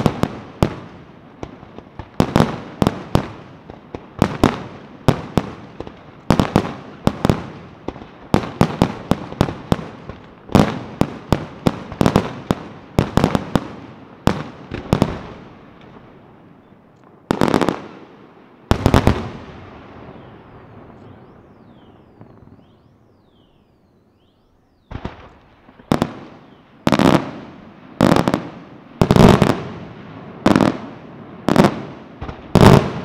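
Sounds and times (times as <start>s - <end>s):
fireworks bangs with echo: 0.0s - 23.6s, 24.8s - 33.0s.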